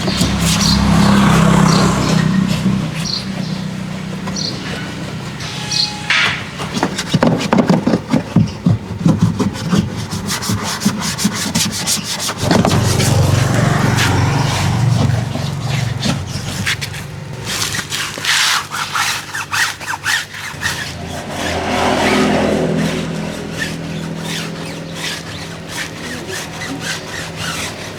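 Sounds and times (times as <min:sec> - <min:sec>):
brush scrubbing car surface: 0:00.0 - 0:05.9, 0:06.5 - 0:27.9.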